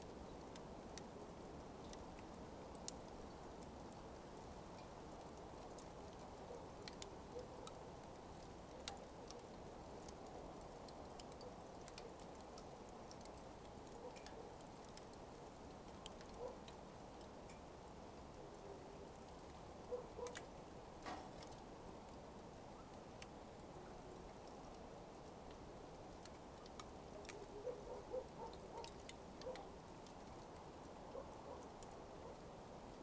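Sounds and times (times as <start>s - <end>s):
burning coals crackling: 0.0s - 33.0s
soft steady hiss: 0.0s - 33.0s.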